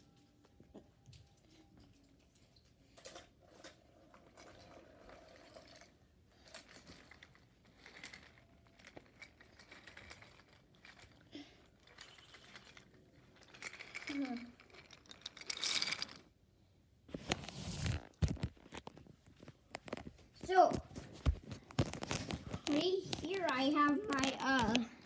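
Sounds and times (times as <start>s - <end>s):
small objects clicking and rustling: 1.8s - 16.3s, 17.1s - 25.0s.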